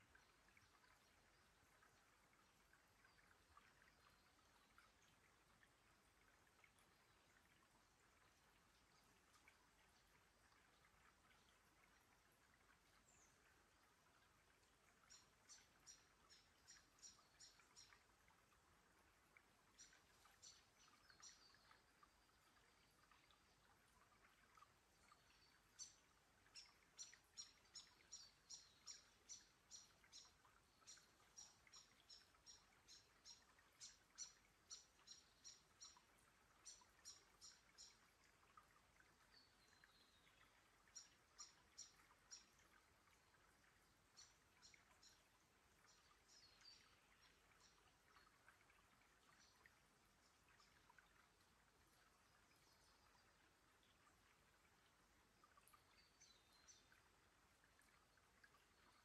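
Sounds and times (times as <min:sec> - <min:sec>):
water trickling over stones: 0:00.0 - 0:59.0.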